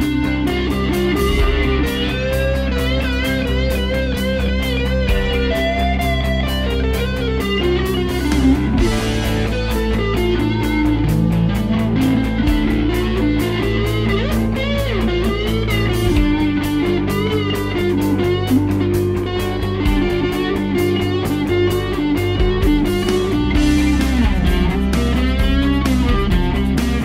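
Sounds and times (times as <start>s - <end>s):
backing track with bass and beat: 0.0s - 27.0s
electric guitar lead line: 0.0s - 27.0s.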